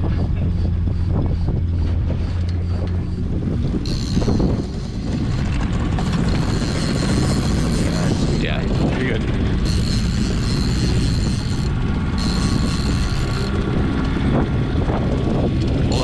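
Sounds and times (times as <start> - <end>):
boat motor running: 0.0 - 16.0
wind buffeting microphone: 0.0 - 16.0.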